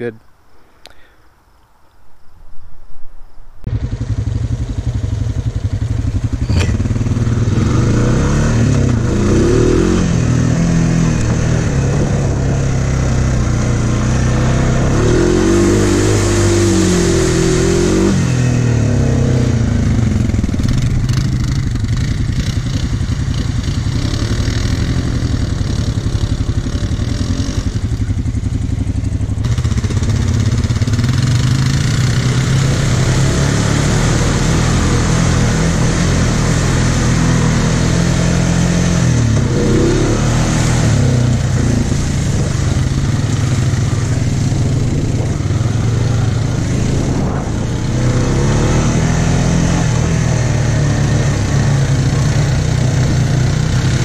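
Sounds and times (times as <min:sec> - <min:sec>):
rush of trail noise: 0:00.0 - 0:54.0
atv engine running: 0:03.6 - 0:54.0.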